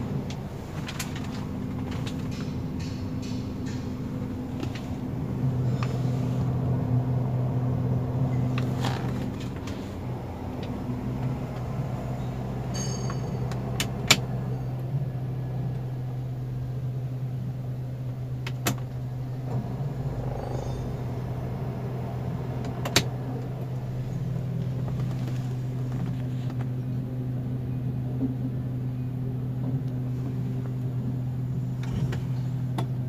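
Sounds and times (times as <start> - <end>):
low droning engine hum: 0.0 - 33.0.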